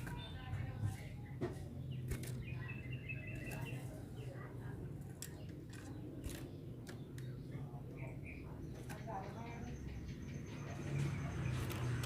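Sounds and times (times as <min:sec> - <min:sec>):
bird chirping: 0:00.0 - 0:04.5, 0:05.2 - 0:12.0.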